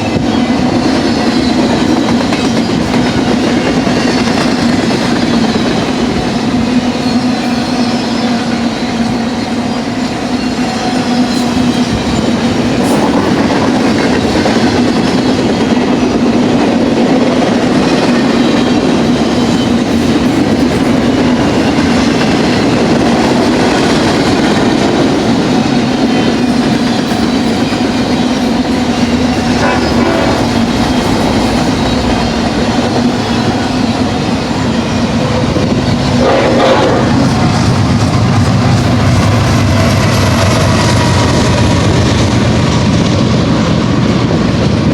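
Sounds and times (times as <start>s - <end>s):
freight train wheels clattering: 0.0s - 44.9s.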